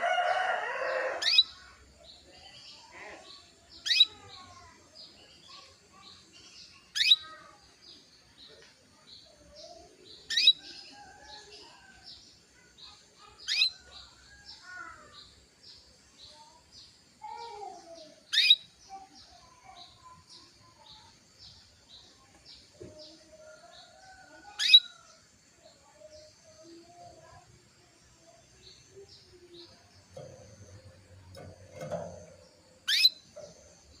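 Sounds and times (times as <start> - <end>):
canary chirps: 0.0 - 27.6, 28.3 - 34.0.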